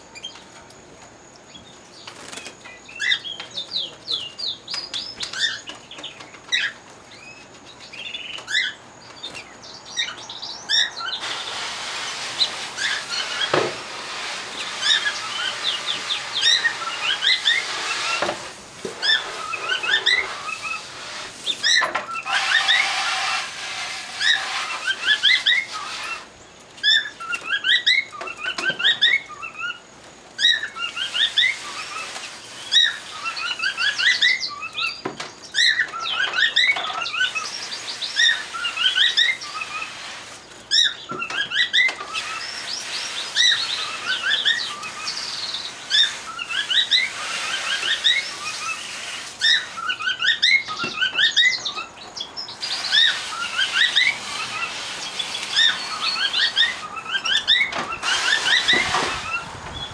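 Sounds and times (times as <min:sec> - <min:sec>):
canaries singing: 0:00.0 - 0:59.9.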